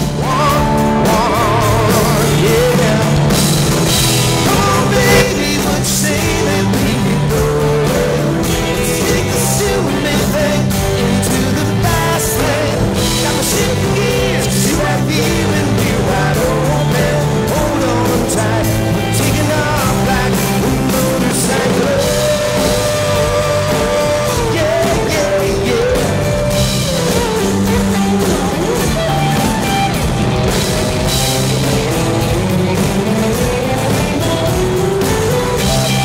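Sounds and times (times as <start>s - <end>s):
country-rock band playing: 0.0s - 36.0s
drum kit: 0.0s - 36.0s
electric guitar: 0.0s - 36.0s.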